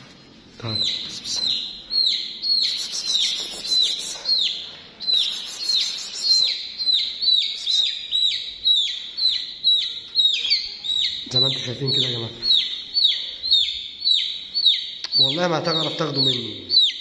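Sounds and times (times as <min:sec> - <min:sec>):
chick peeping loudly: 0:00.6 - 0:17.0.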